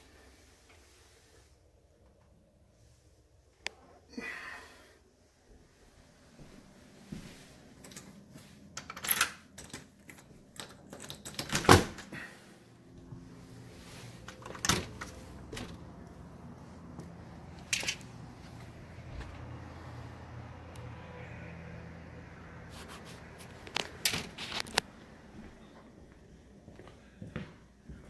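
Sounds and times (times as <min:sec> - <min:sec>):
low steady hum: 0:00.0 - 0:27.6.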